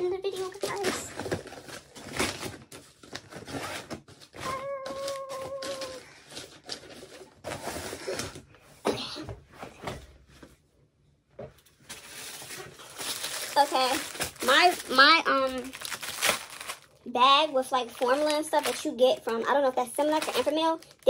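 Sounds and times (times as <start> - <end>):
rummaging in boxes and bags: 0.0 - 8.6, 11.5 - 16.9, 17.6 - 21.0.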